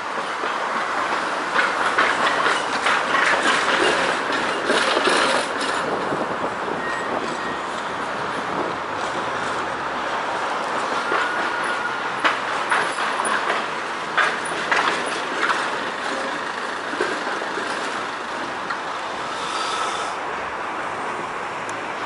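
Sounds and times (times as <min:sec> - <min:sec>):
street traffic noise: 0:00.0 - 0:22.0
tram wheels clacking over rails: 0:00.0 - 0:22.0.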